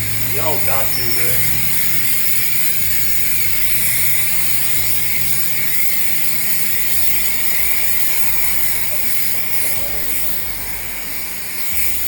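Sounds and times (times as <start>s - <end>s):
car wash spray hissing: 0.0s - 12.0s.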